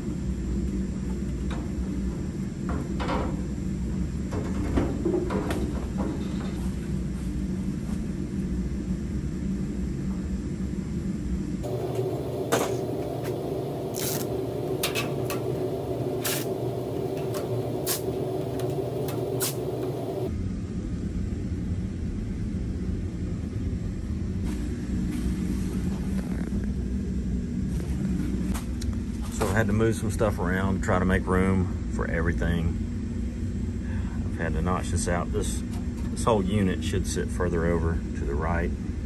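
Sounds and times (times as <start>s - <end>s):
steady low rumble: 5.3s - 39.0s.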